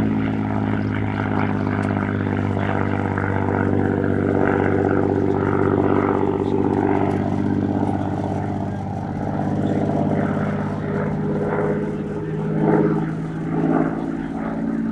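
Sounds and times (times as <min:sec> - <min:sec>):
propeller plane engine in flight: 0:00.0 - 0:14.9.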